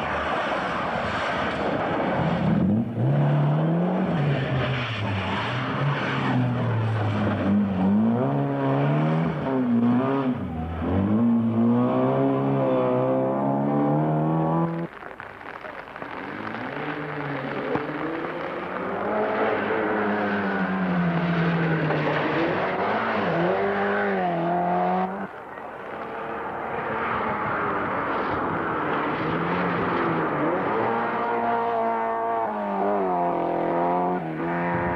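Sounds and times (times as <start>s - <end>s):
car accelerating: 0.0s - 34.9s
rally car engines revving: 0.0s - 34.9s.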